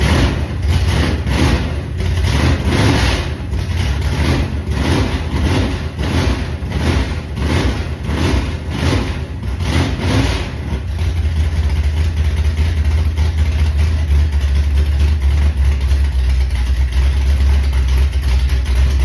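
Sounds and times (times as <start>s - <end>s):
vee eight engine idling: 0.0s - 19.0s.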